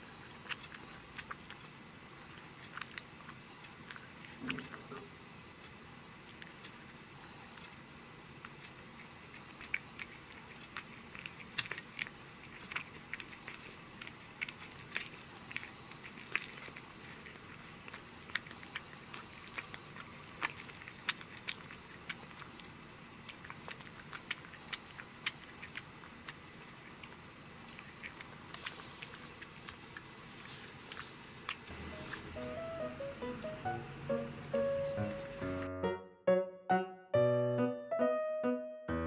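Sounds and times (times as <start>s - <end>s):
cat chewing fish: 0.0s - 35.4s.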